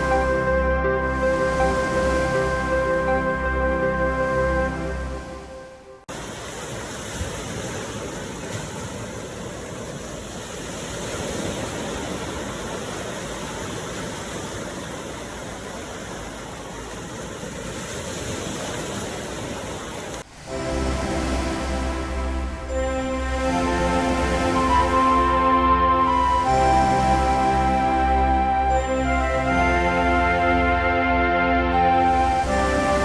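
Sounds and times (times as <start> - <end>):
ocean surf rushing: 0.0 - 33.0.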